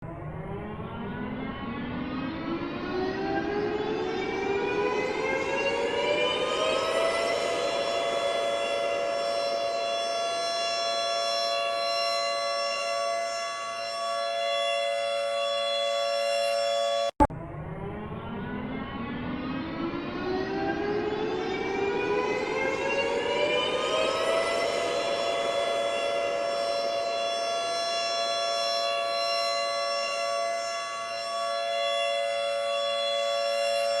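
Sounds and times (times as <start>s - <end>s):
air raid siren: 0.0s - 34.0s.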